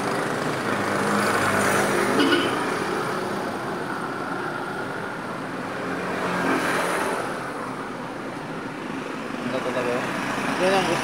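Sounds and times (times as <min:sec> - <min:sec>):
vehicle passing on highway: 0:00.0 - 0:11.0.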